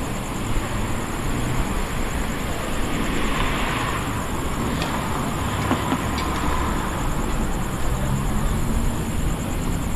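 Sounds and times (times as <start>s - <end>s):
traffic engines and tyres rumbling: 0.0s - 9.9s.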